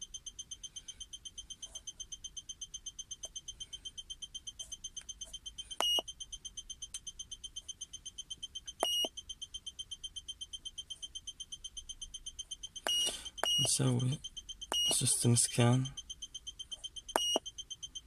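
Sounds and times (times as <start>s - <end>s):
long loud beeps: 0.0s - 18.0s
rapid electronic warning beeping: 0.0s - 18.0s.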